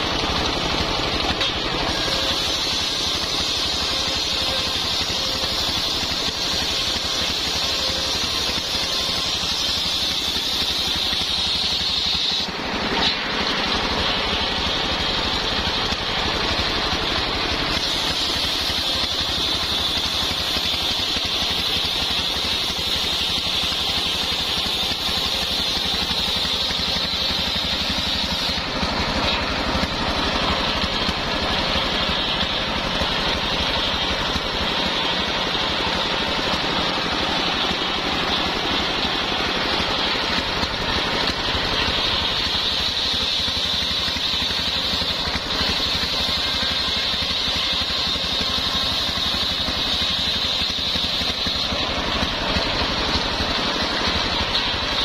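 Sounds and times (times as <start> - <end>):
circular saw blade whine: 0.0 - 55.0
engine running under load: 0.0 - 55.0.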